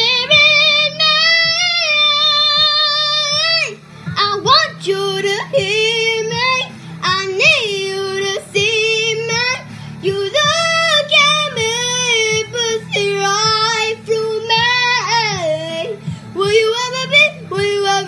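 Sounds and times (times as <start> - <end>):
girl singing: 0.0 - 18.0.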